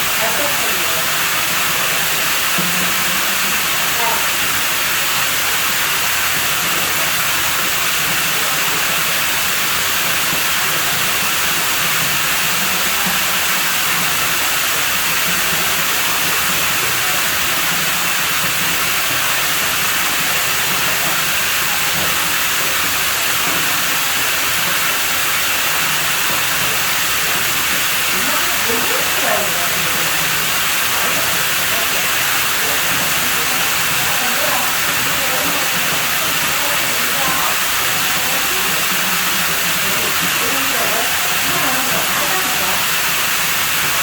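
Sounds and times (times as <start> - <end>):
flowing water rushing: 0.0 - 44.0.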